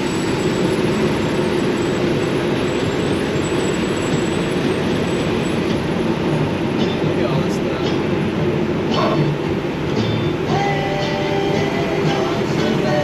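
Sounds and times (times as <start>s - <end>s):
truck rumbling inside cab: 0.0s - 13.0s.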